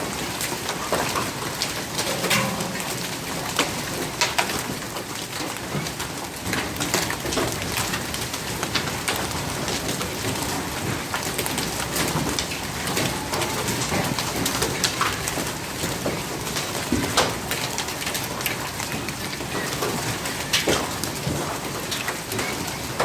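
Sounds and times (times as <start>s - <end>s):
hailstones ticking on surfaces: 0.0s - 23.0s
rain downpour hiss: 0.0s - 23.0s.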